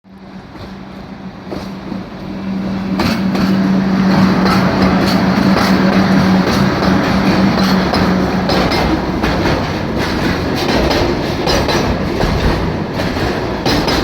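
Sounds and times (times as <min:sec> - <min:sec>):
freight train passing: 0:00.0 - 0:14.0
wheels clacking over rail joints: 0:00.4 - 0:14.0.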